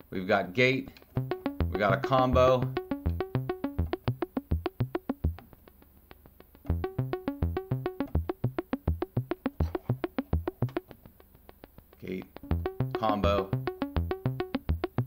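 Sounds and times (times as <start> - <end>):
synthesizer plucked pitched notes: 1.1 - 15.0.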